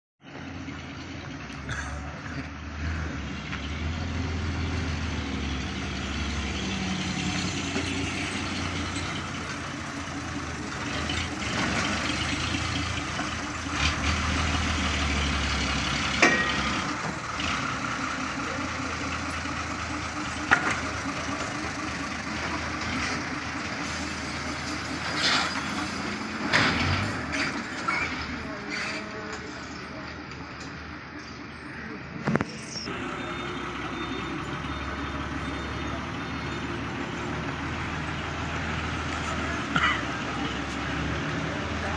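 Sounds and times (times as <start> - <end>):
diesel truck engine running: 0.2 - 31.2, 32.2 - 41.9.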